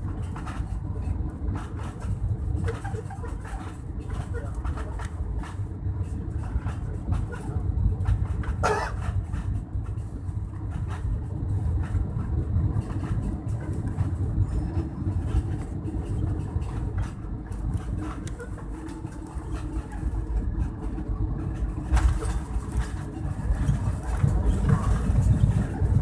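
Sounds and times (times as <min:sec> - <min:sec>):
airplane cabin low rumble: 0:00.0 - 0:26.0.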